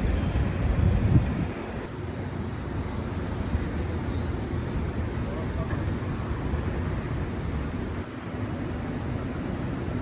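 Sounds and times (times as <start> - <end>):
passing traffic: 0.0 - 10.0.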